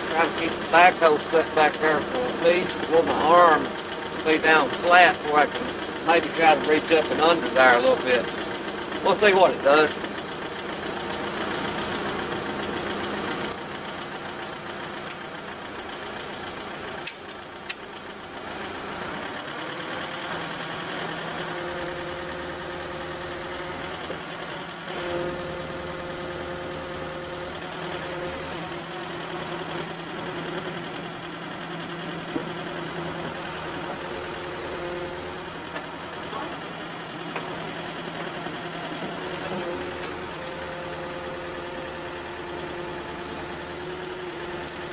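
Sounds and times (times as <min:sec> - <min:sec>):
backhoe engine running: 0:00.0 - 0:44.9.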